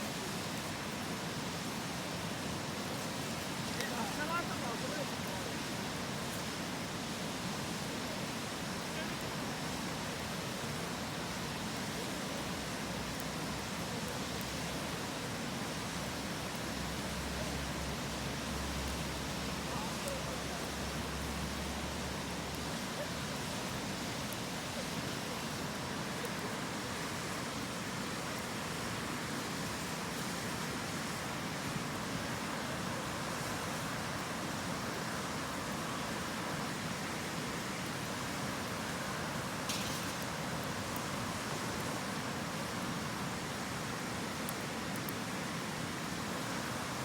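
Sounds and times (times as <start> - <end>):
campfire crackling: 0.0 - 47.0
river rushing: 0.0 - 47.0.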